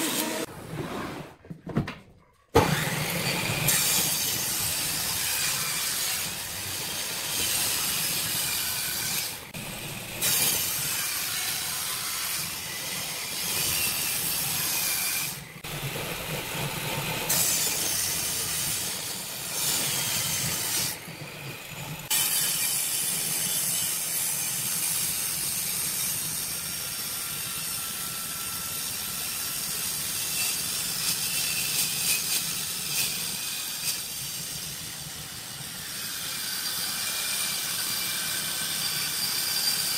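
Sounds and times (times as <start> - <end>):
power tool cutting wood: 0.0 - 0.5, 2.6 - 34.5, 35.7 - 39.9.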